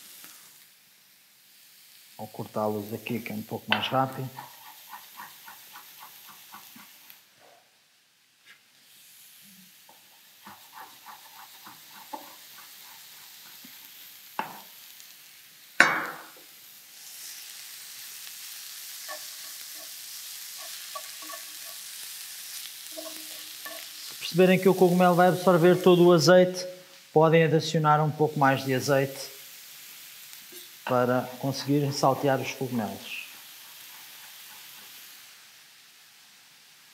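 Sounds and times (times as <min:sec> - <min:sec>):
mushrooms sizzling in frying pan: 0:00.0 - 0:36.9.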